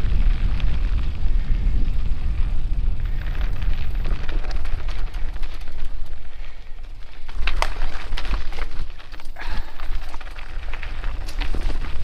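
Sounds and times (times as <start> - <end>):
wind buffeting microphone: 0.0 - 12.0
brush crackling: 2.3 - 12.0.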